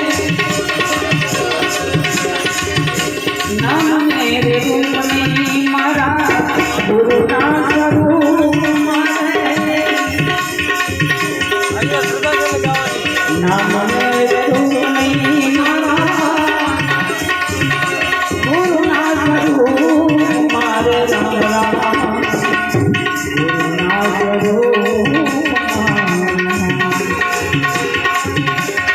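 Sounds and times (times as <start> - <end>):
harmonium melody: 0.0 - 28.9
tabla rhythm: 0.0 - 28.9.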